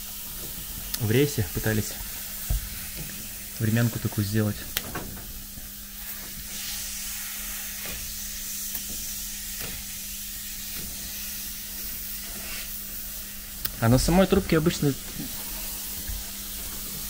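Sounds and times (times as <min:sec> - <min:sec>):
compressed air hissing: 0:00.0 - 0:17.0.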